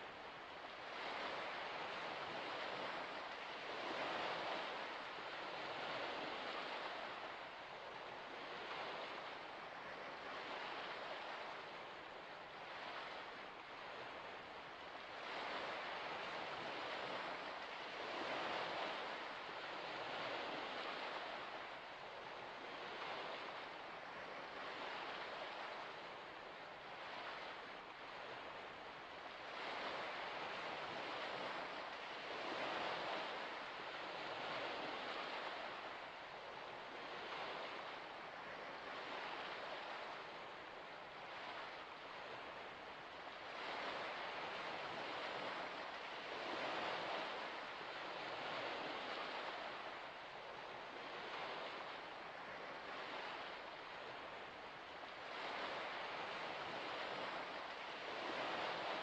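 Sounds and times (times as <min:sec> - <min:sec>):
gentle waves washing onto shore: 0:00.0 - 0:59.0.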